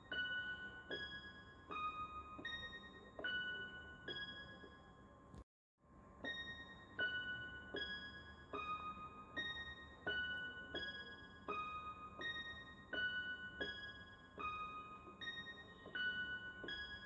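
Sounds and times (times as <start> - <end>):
keyboard playing simple melody: 0.0 - 5.4, 6.0 - 17.0.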